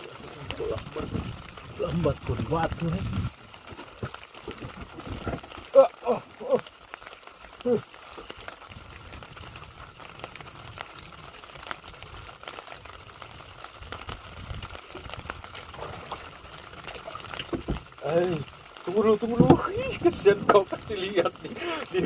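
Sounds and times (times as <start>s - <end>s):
raindrop ticks: 0.0s - 22.0s.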